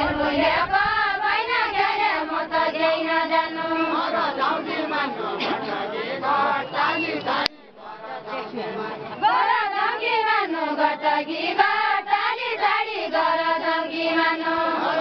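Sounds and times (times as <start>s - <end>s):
women singing in chorus: 0.0s - 15.0s.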